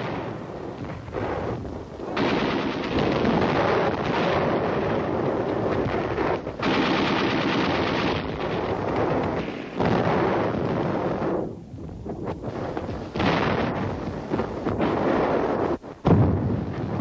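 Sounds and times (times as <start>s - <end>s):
machine-gun fire: 0.0s - 11.4s, 12.9s - 17.0s.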